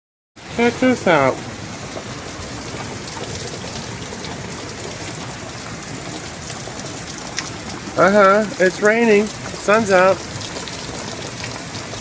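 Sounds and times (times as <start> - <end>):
rain falling: 0.4 - 12.0.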